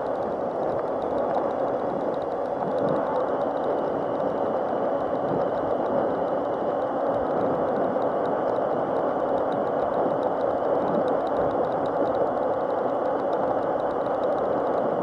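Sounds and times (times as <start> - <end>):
faint rapid ticking: 0.0 - 15.0.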